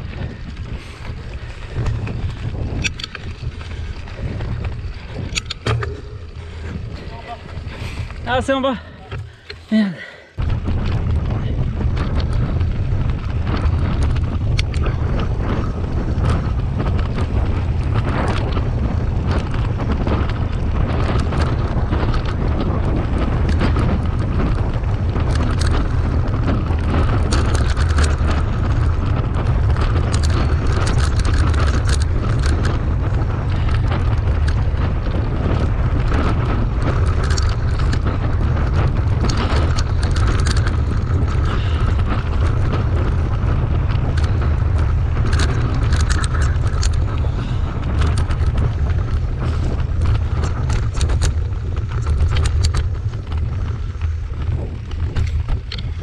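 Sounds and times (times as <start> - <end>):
bike knocks and rattles: 0.0 - 9.8, 10.4 - 56.0
wind buffeting microphone: 0.0 - 56.0.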